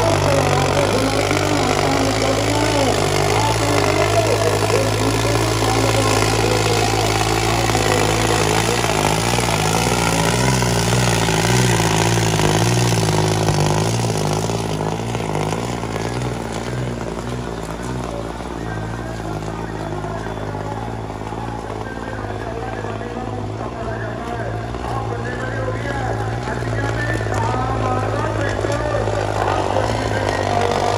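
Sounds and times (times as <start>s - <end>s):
tractor diesel engine under load: 0.0s - 30.9s.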